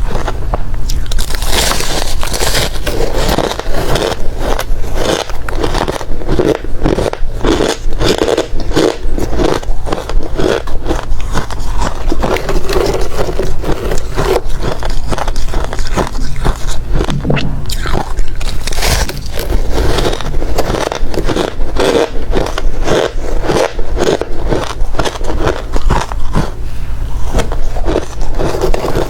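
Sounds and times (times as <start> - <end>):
ice crunching being chewed: 0.0 - 29.0.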